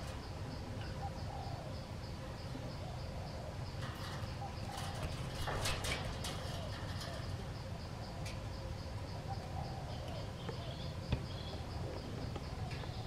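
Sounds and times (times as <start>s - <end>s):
insect calling: 0.0s - 13.0s.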